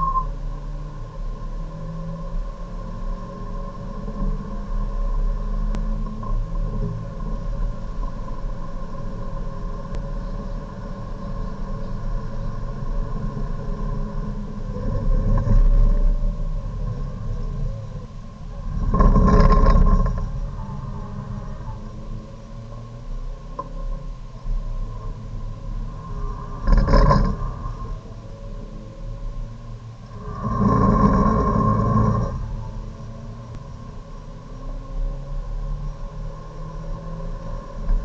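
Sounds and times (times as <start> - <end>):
race car engine at high revs: 0.5 - 38.0.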